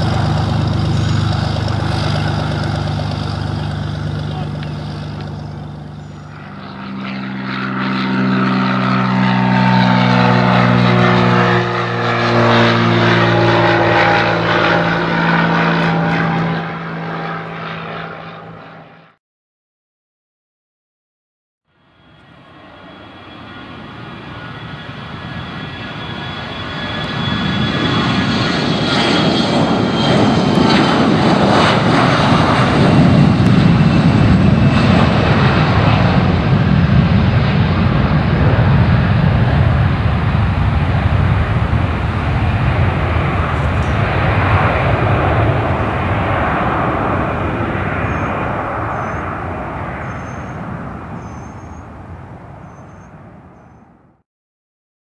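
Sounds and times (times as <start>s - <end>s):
high jet engine whine: 0.0s - 19.2s, 21.7s - 54.2s
jet engines roaring on takeoff: 0.0s - 19.2s, 21.7s - 54.2s.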